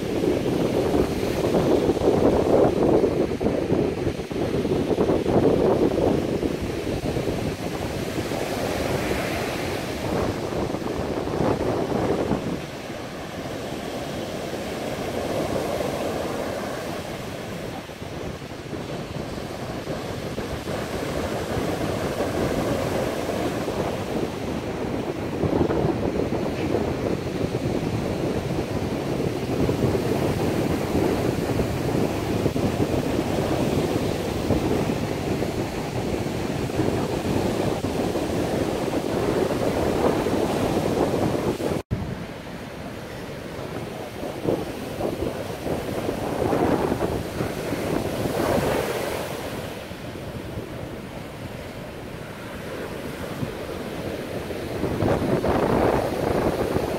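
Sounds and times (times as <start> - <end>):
surf breaking on a beach: 0.0 - 56.9
wind buffeting microphone: 0.0 - 56.9.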